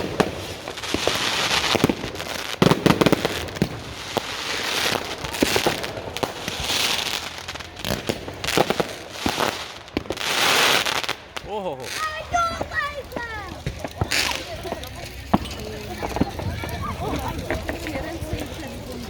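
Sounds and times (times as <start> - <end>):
fireworks crackling hiss: 0.0 - 19.0
fireworks cracks and bangs: 0.0 - 19.0.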